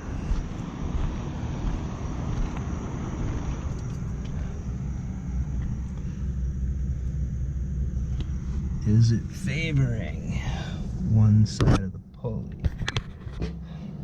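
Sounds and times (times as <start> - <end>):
hvac unit rumbling: 0.0 - 14.0.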